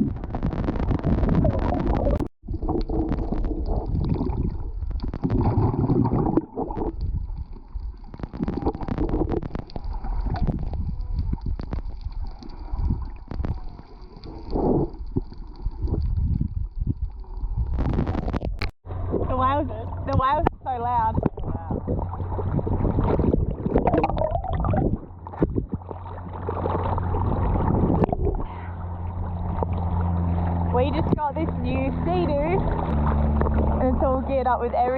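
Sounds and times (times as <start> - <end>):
water rushing and gurgling: 0.0 - 34.9.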